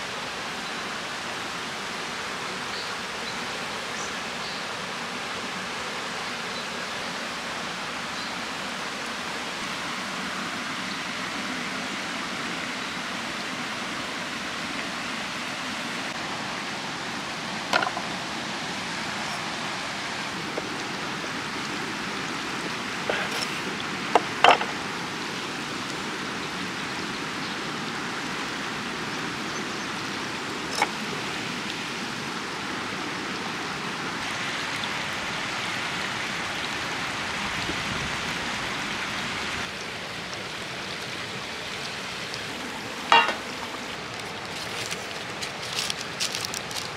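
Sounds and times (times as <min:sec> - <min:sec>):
flowing stream: 0:00.0 - 0:46.9.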